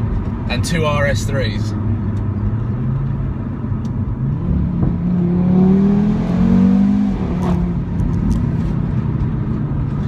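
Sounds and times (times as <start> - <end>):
car engine accelerating: 1.9 - 10.0.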